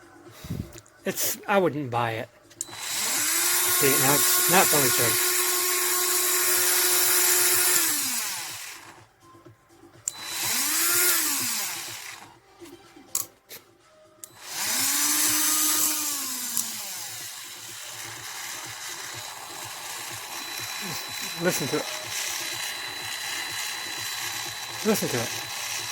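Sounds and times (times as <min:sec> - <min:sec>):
rotary tool motor whining: 0:02.5 - 0:09.4, 0:10.1 - 0:13.3, 0:14.2 - 0:25.9.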